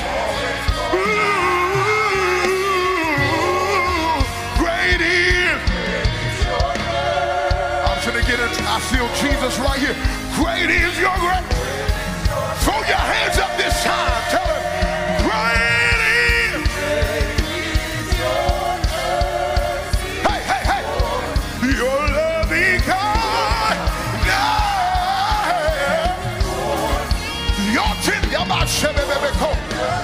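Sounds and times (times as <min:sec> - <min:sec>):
church band with fast drums: 0:00.0 - 0:30.0.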